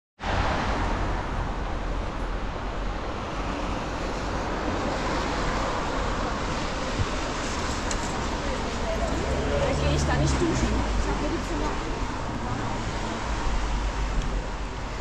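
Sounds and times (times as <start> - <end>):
traffic on wet road: 0.2 - 15.0.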